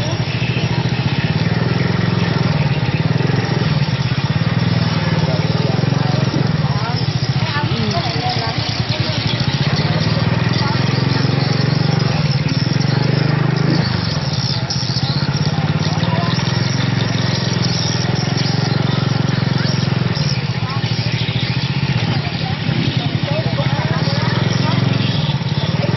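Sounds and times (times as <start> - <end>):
motorbike engine running: 0.0 - 25.9.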